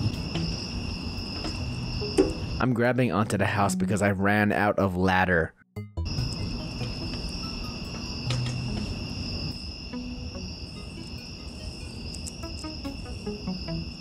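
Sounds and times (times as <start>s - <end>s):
insects trilling: 0.0s - 4.0s, 6.1s - 14.0s.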